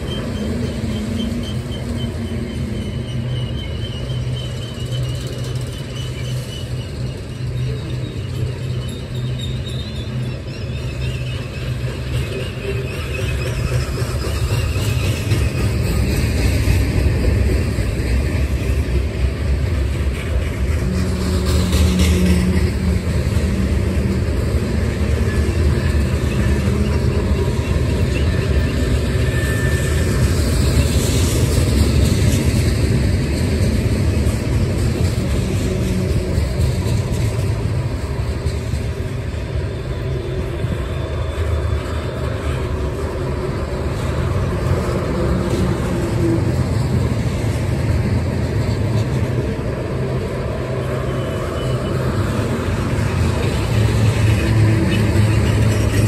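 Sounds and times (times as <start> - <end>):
high wheel squeal: 0.0 - 16.7, 20.2 - 32.6, 34.0 - 47.5, 49.0 - 56.0
freight train rumbling past: 0.0 - 56.0.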